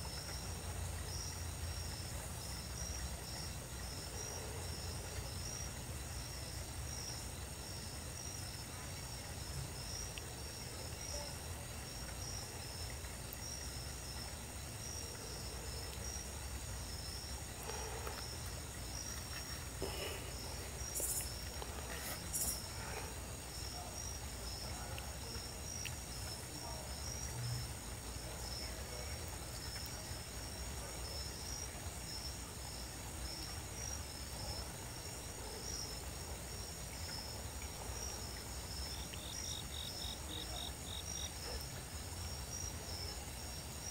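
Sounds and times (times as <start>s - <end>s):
high insect trill: 0.0s - 43.9s
night insects chirping: 0.0s - 43.9s.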